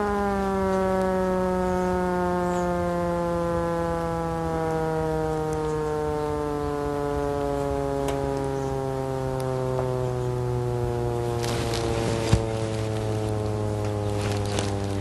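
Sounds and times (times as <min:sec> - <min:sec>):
crackling: 0:00.0 - 0:15.0.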